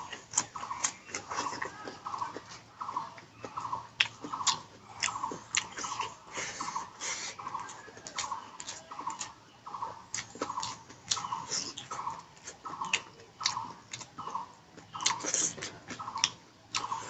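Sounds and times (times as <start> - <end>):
close-miked chewing: 0.0 - 17.0.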